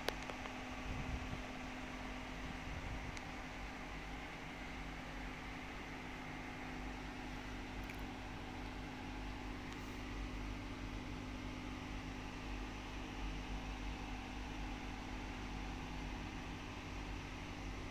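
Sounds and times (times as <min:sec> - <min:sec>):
low mechanical hum: 0:00.0 - 0:17.9.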